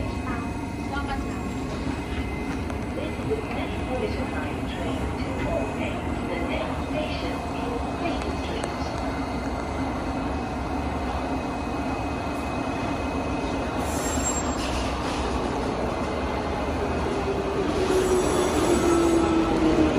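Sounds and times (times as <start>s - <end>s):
train equipment humming: 0.0s - 19.9s.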